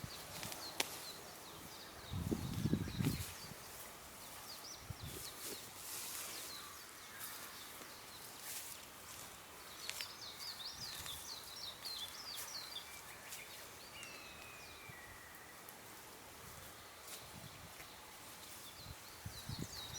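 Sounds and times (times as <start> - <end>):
wild birds singing: 0.0 - 19.9.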